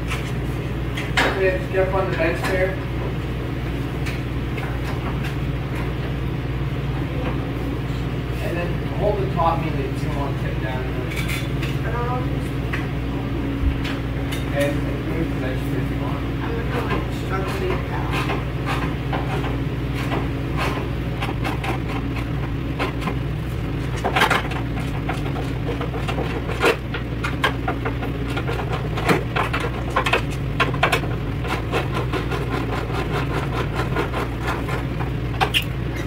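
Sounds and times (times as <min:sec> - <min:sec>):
machine humming: 0:00.0 - 0:36.0.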